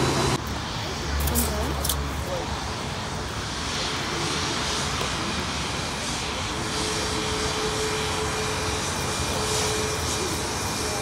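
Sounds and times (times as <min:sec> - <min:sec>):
jet engines rushing: 0:00.0 - 0:11.0
steady engine whine: 0:00.0 - 0:11.0.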